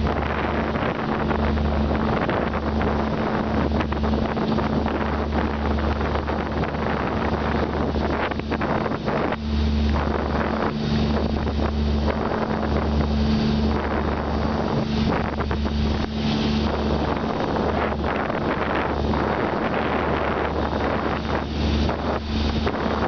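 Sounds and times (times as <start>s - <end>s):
boat engine humming: 0.0s - 23.0s
rush of churning wake: 0.0s - 23.0s
wind buffeting microphone: 0.0s - 23.0s.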